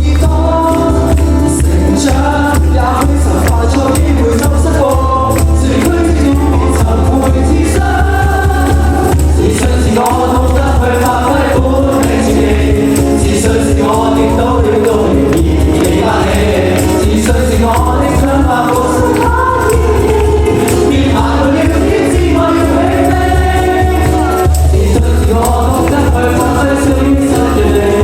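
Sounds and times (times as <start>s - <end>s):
group vocals singing: 0.0s - 28.0s
pop-rock band playing live: 0.0s - 28.0s.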